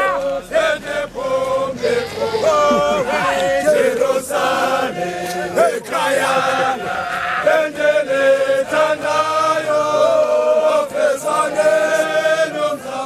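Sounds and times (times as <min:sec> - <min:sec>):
men singing a hymn: 0:00.0 - 0:13.0.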